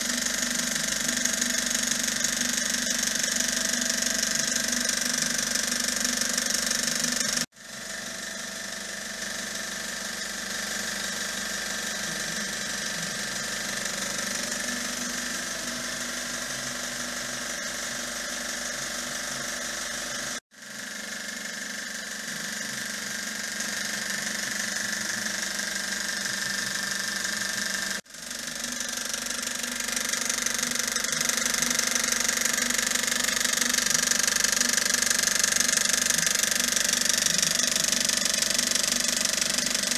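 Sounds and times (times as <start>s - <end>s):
projector mechanism whirring: 0.0s - 39.9s.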